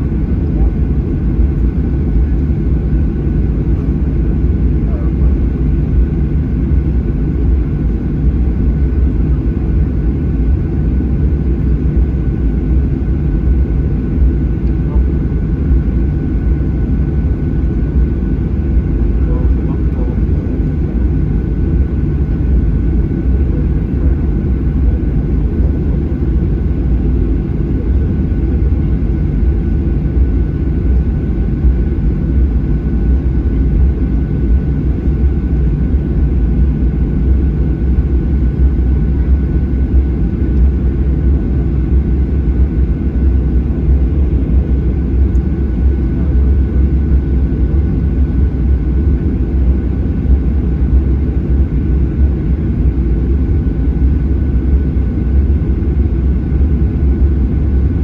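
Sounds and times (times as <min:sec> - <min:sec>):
jet engines low rumble: 0:00.0 - 0:58.0.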